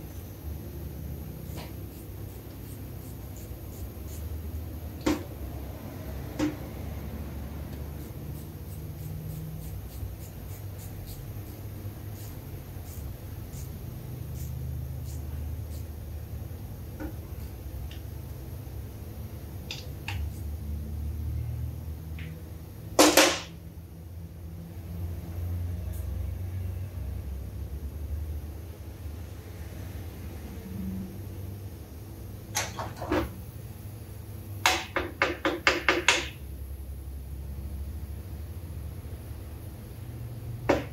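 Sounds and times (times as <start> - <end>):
steady low hum: 0.0 - 35.3, 36.3 - 40.9.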